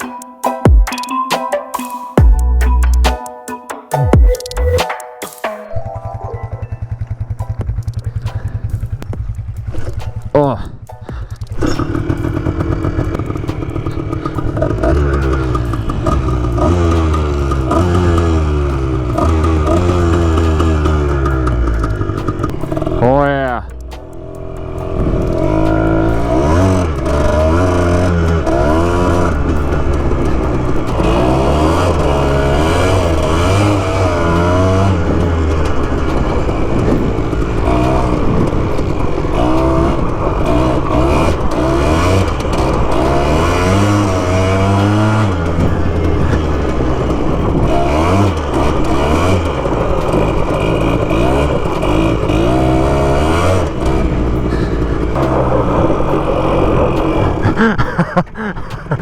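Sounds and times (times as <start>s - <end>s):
small off-road engine revving: 6.8s - 59.0s.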